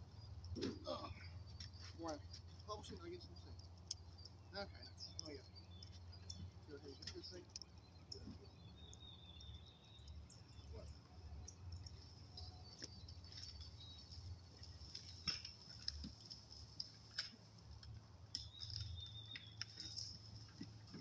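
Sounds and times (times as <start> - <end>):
bird chirps and twitters: 0.0 - 21.0.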